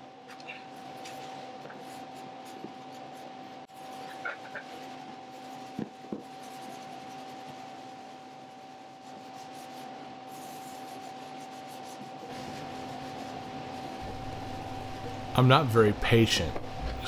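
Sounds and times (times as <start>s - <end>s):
steady hum: 0.0s - 17.0s
paper towel rubbing on wood: 0.9s - 15.1s.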